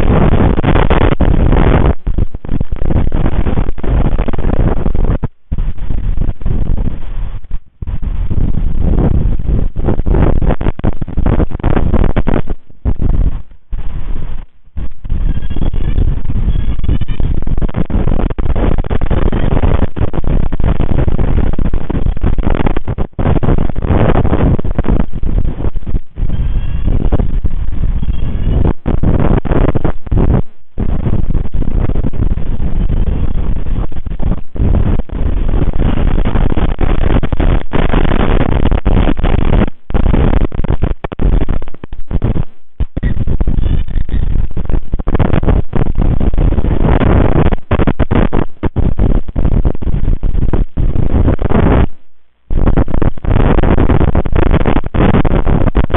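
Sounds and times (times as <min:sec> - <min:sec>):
strong wind buffeting microphone: 0:00.0 - 0:55.9.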